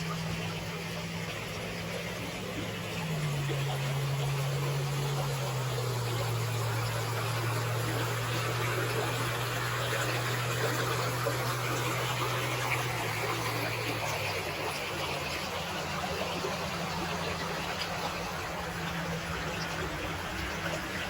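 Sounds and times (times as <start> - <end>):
road traffic engine hum: 0.0 - 21.0
water rushing: 0.0 - 21.0.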